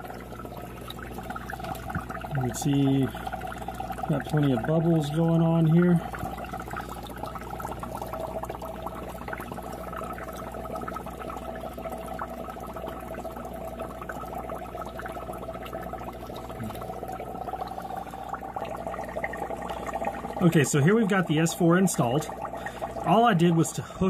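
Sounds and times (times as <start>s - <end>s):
air bubbles fizzing in water: 0.0s - 24.0s
steady hum: 0.0s - 24.0s.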